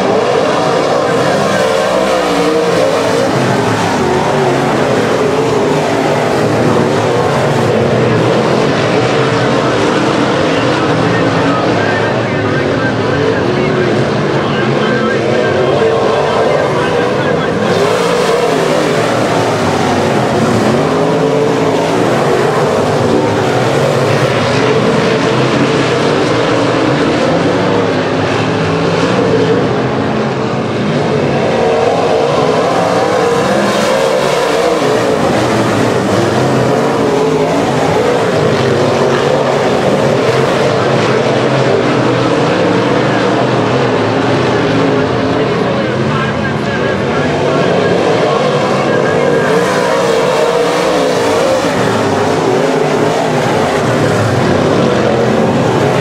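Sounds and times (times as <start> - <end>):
race car engines circling: 0.0 - 56.0.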